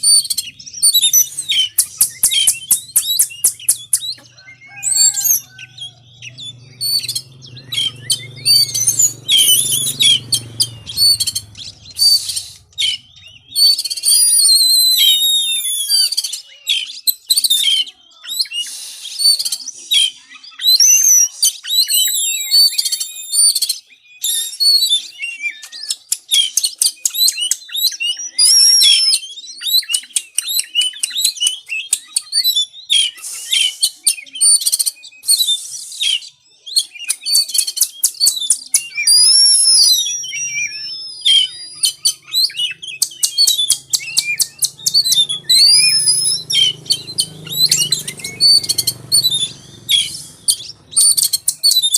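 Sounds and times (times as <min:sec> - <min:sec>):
bird singing: 0:00.0 - 0:51.9.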